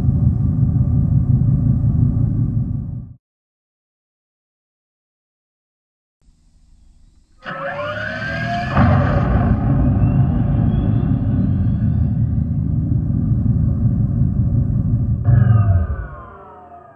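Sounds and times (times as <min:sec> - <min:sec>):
synthetic car exhaust rumble: 0:00.0 - 0:03.2, 0:06.3 - 0:16.9.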